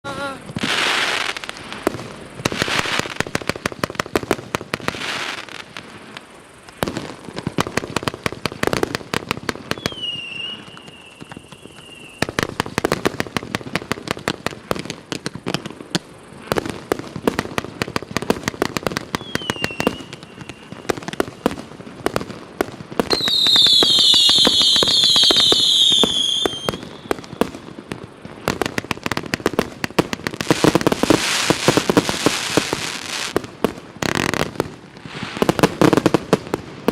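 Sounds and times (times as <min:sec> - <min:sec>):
firework crackling pops: 0:00.0 - 0:36.9
firework whistles: 0:00.0 - 0:36.9.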